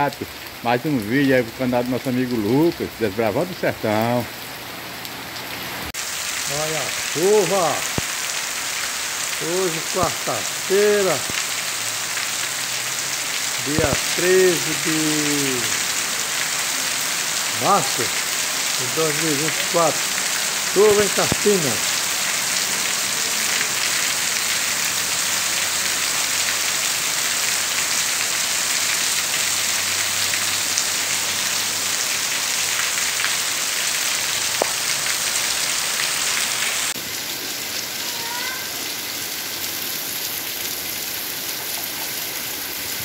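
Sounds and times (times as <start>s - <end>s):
heavy rain on pavement: 0.0s - 43.0s.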